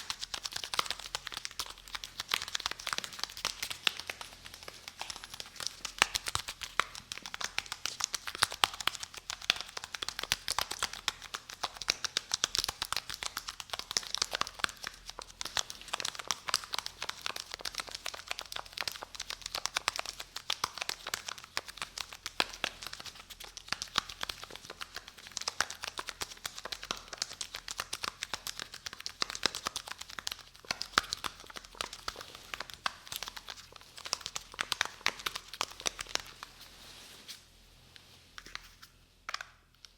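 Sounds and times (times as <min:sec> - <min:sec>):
close-miked crinkling and crackling: 0:00.0 - 0:39.9.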